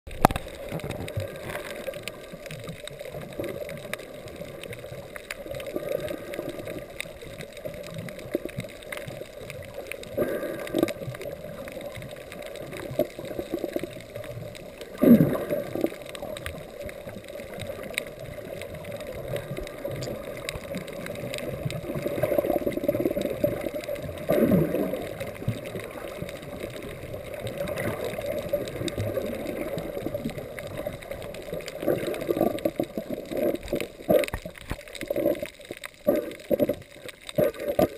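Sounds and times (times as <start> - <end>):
gurgling water surges: 0.1 - 37.9
muffled underwater sea water: 0.1 - 37.9.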